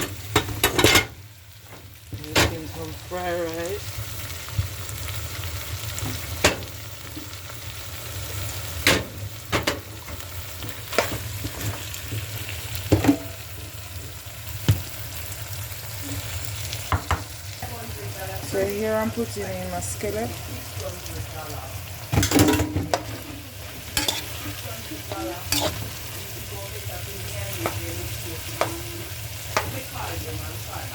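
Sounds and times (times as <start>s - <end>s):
food sizzling in frying pan: 0.0s - 30.9s.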